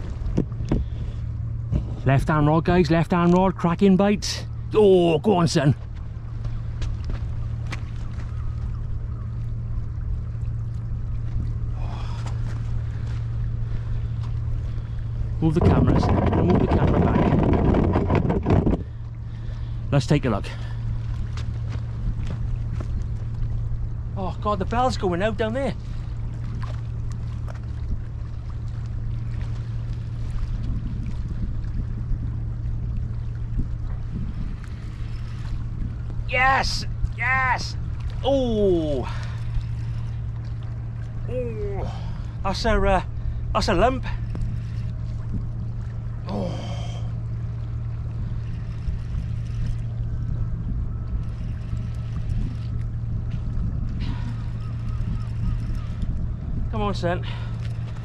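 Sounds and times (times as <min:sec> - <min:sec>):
outdoor background noise: 0:00.0 - 0:58.0
steady low hum: 0:00.0 - 0:58.0
wind rumble on microphone: 0:00.0 - 0:58.0.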